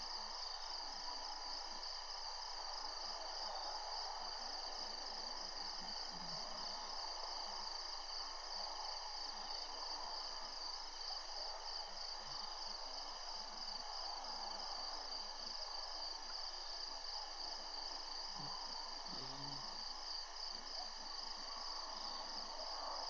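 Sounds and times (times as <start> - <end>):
insects trilling: 0.2 - 23.0.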